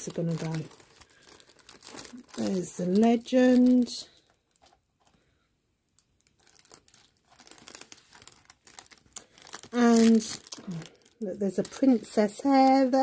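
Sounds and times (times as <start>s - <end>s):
canvas crinkling and rustling: 0.0s - 5.2s, 5.9s - 13.0s.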